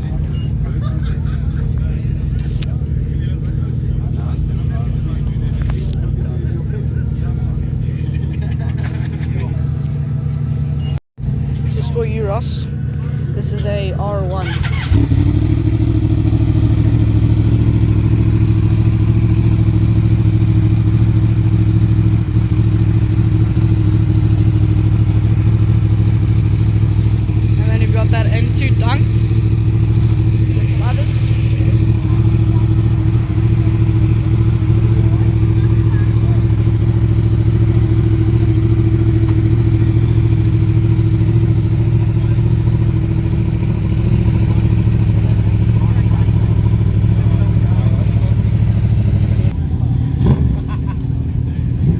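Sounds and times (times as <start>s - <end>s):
motorcycle engine idling: 0.0s - 51.9s.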